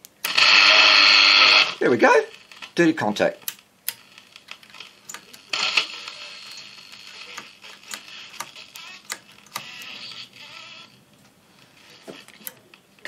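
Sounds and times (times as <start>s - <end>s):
radio static and crackle: 0.3s - 13.0s.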